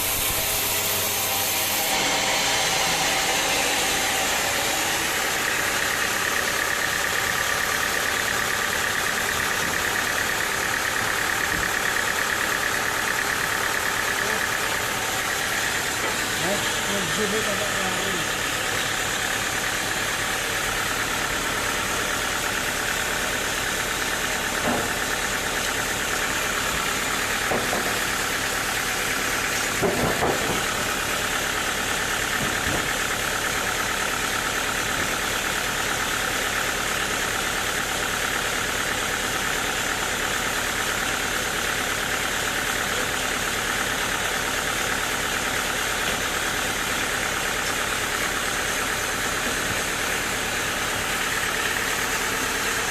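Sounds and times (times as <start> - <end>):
sawmill machinery humming: 0.0 - 52.9.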